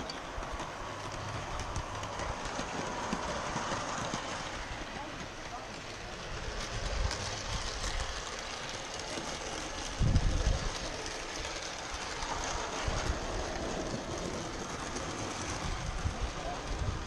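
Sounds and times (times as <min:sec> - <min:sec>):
model train wheels clattering: 0:00.0 - 0:17.0.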